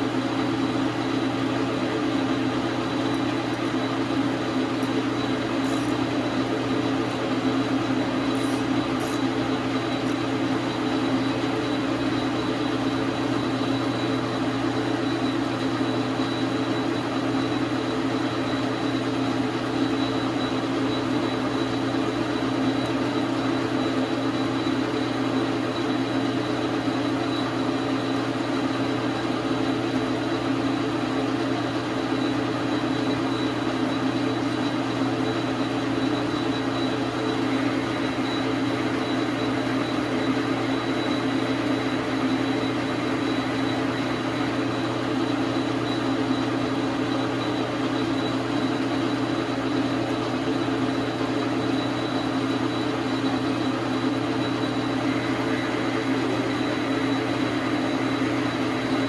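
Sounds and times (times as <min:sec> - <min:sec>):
metal lathe running: 0:00.0 - 0:59.0.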